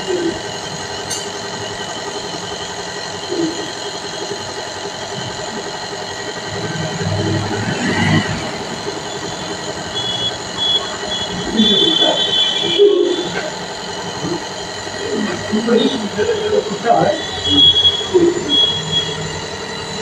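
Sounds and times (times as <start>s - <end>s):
nebulizer compressor humming: 0.0s - 20.0s.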